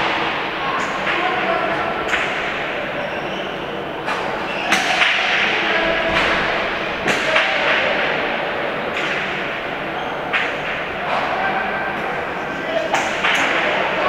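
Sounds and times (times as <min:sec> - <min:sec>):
hall background noise: 0:00.0 - 0:14.0.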